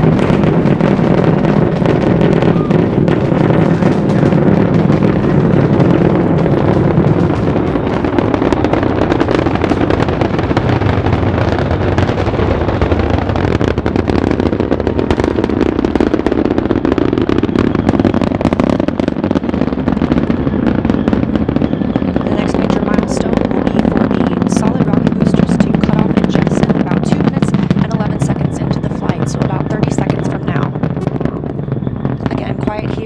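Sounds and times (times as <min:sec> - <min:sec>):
rocket engine roaring and crackling: 0:00.0 - 0:33.0.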